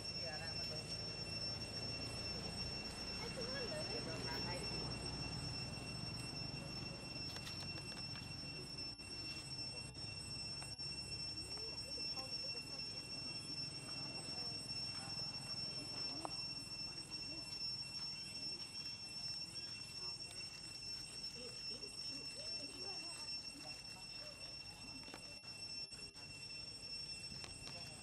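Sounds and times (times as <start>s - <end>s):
forest insects droning: 0.0s - 28.0s.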